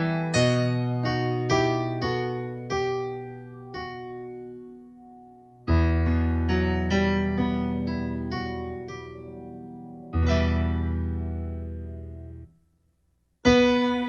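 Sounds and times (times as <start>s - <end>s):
slow piano music: 0.0s - 12.6s, 13.4s - 14.0s.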